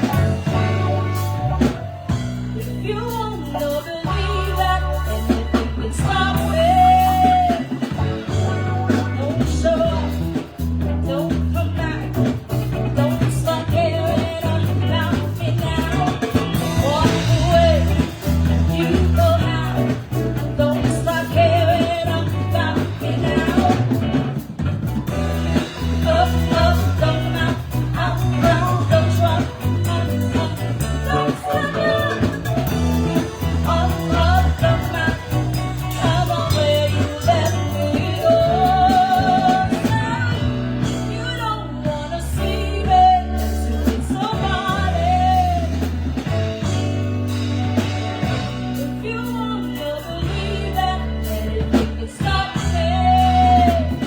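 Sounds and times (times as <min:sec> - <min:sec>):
person singing: 0:00.0 - 0:46.9, 0:47.7 - 0:54.0
live band playing: 0:00.0 - 0:54.0
low bass line: 0:00.0 - 0:54.0.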